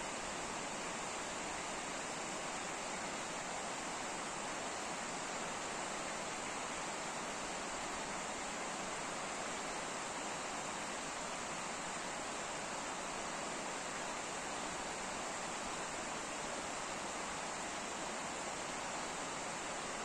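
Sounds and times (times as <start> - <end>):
water rushing at a dam: 0.0 - 20.0.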